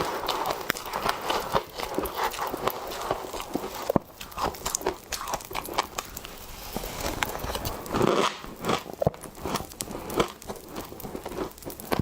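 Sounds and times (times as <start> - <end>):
frost being chewed crunching: 0.0 - 12.0.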